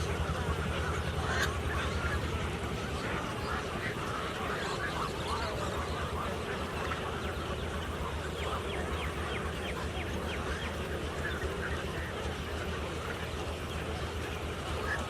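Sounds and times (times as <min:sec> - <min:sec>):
birds calling in chorus: 0:00.0 - 0:15.0
low hum: 0:00.0 - 0:15.0.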